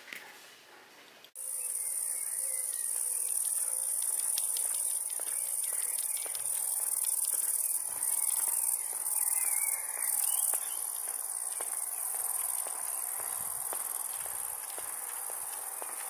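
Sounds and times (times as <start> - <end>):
crickets chirring: 1.4 - 16.0.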